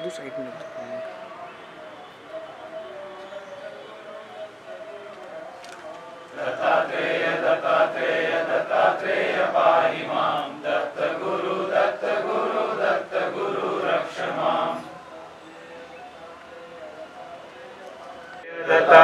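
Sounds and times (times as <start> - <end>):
voices chanting a prayer: 0.0 - 19.0.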